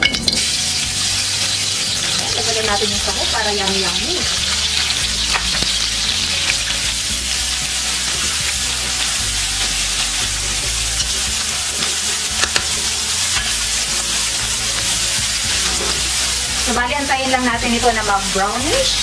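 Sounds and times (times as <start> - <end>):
meat sizzling in oil: 0.0 - 19.0
wooden spatula scraping a wok: 0.4 - 19.0.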